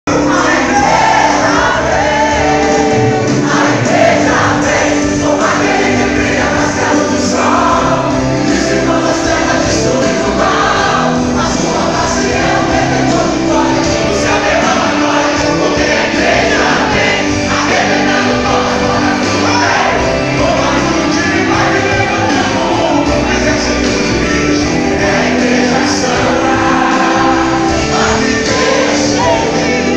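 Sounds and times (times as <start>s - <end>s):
gospel worship music: 0.0s - 29.9s
congregation singing loudly: 0.1s - 29.9s.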